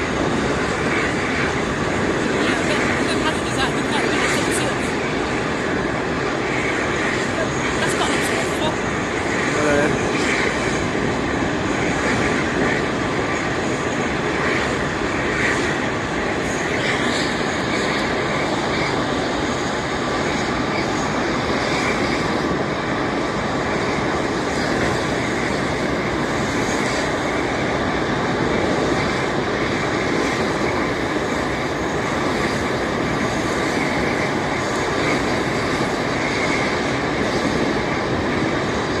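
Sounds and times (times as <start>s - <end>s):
jet engines rushing: 0.0s - 39.0s.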